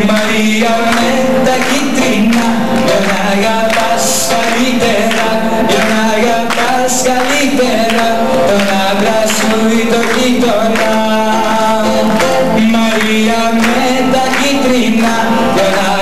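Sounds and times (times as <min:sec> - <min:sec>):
guitar: 0:00.0 - 0:16.0
man singing into a microphone: 0:00.0 - 0:16.0.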